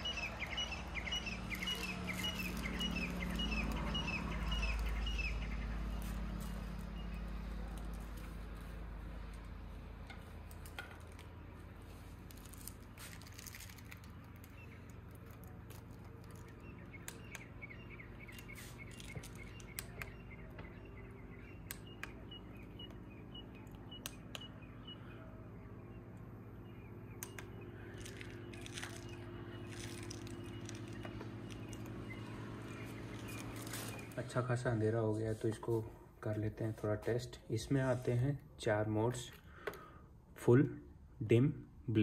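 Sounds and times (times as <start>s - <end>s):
bird chirping: 0.0s - 10.7s, 11.9s - 35.6s
steady low hum: 0.0s - 41.9s.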